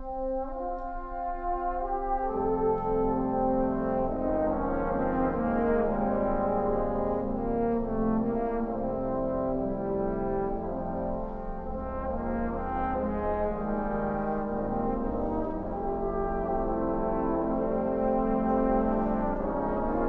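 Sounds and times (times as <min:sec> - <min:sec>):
trombone choir slow chords: 0:00.0 - 0:20.0.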